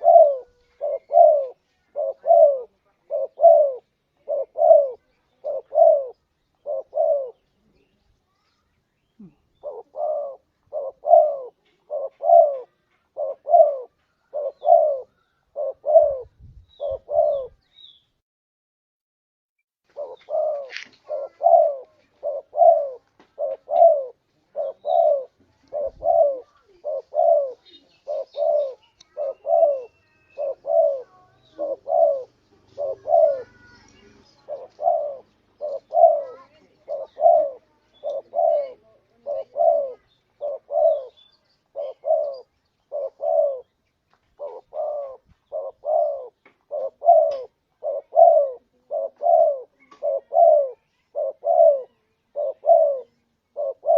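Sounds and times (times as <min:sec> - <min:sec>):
dove cooing: 0:00.0 - 0:07.9, 0:09.2 - 0:17.6, 0:19.9 - 0:53.9.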